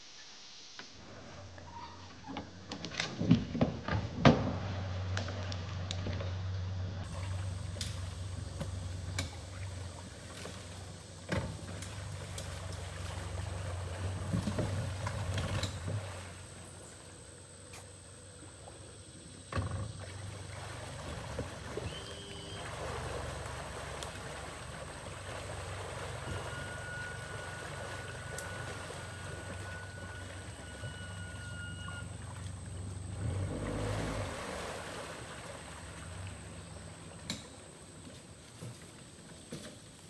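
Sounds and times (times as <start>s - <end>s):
small boat motor humming: 4.6s - 40.0s
faint steady whine: 4.8s - 40.0s.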